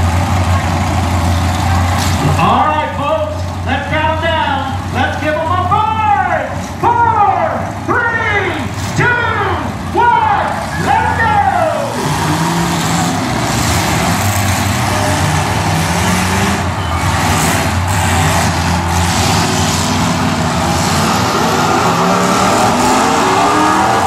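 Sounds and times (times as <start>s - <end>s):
car engines revving loudly: 0.0s - 24.0s.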